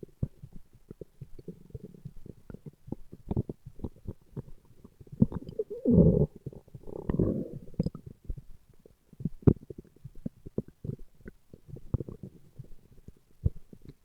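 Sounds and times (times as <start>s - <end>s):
stomach growling: 0.1s - 14.0s.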